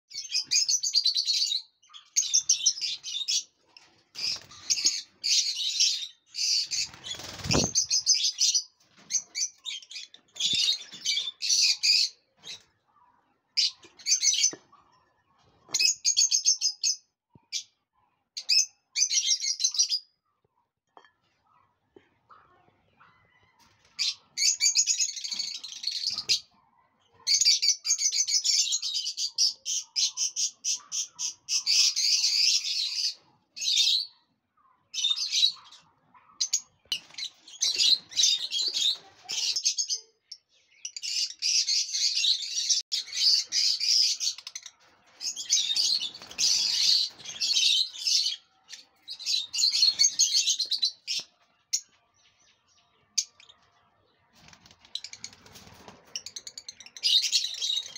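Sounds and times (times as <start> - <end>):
lovebirds chirping: 0.1 - 17.8, 23.0 - 57.9.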